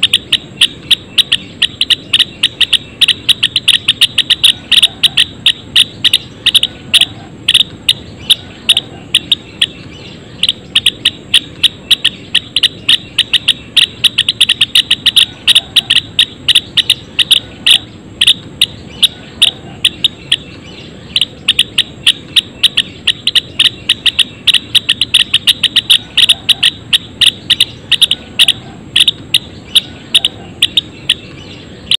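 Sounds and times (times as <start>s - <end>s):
sparrows chirping: 0.0s - 32.0s.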